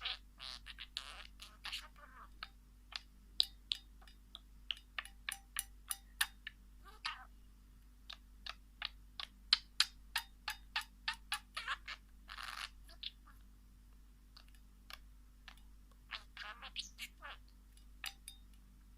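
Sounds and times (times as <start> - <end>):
bird ticking calls: 0.0 - 7.3, 8.0 - 13.4, 14.4 - 18.5.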